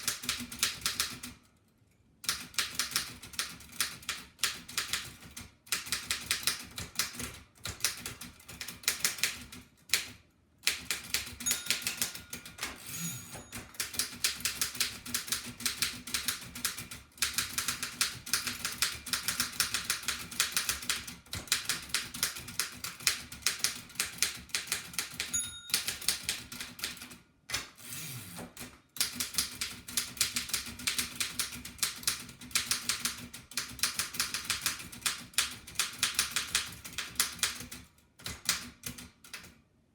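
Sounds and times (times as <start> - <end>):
typewriter typing fast: 0.0 - 1.4, 2.2 - 12.8, 13.5 - 39.5.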